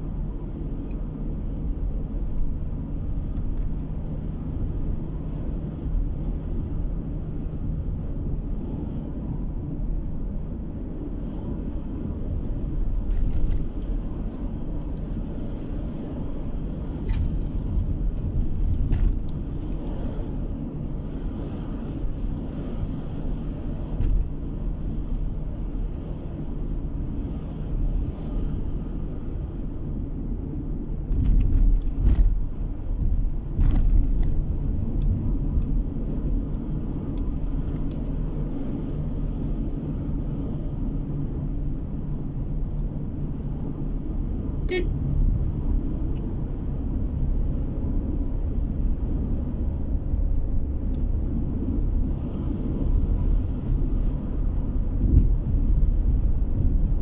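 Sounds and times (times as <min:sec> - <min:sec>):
car driving heard from inside: 0:00.0 - 0:57.0.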